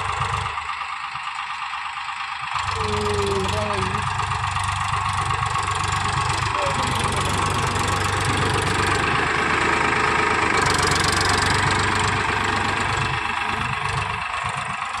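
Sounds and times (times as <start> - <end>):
diesel tractor engine clatter: 0.0 - 15.0.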